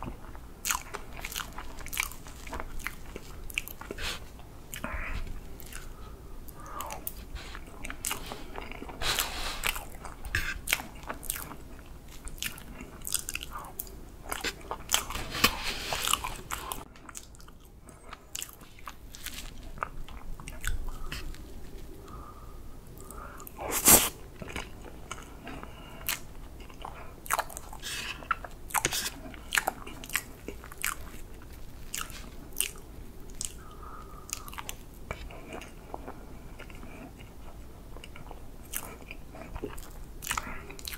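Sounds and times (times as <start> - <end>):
mouth chewing soft cake: 0.0 - 40.9.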